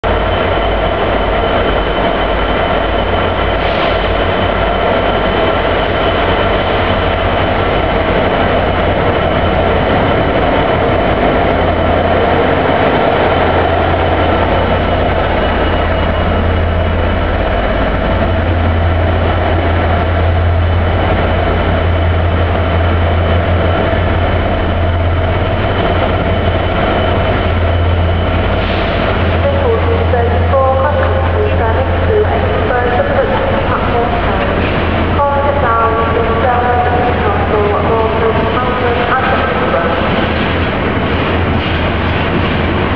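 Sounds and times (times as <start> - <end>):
diesel locomotive engine running: 0.0 - 42.9.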